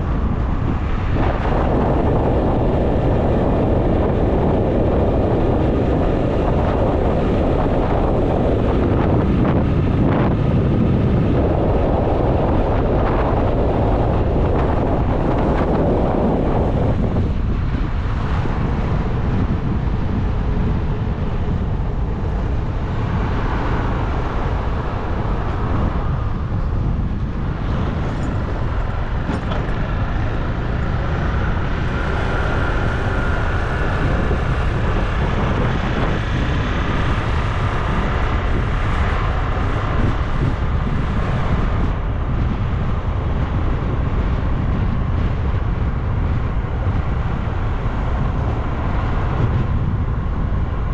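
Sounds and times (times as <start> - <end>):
bike road noise: 0.0 - 50.9
wind rush on microphone: 0.0 - 50.9.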